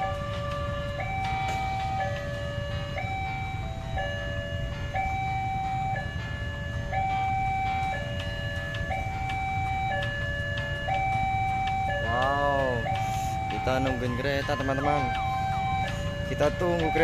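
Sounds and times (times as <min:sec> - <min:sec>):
electronic two-tone alarm: 0:00.0 - 0:17.0.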